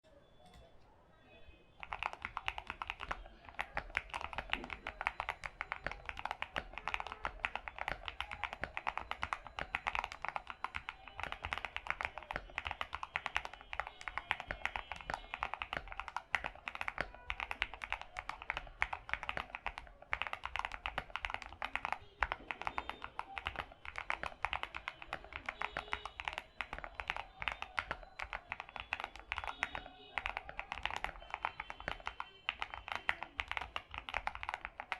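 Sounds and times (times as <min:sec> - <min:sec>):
mechanical keyboard keystroke clacks: 0:01.8 - 0:34.9.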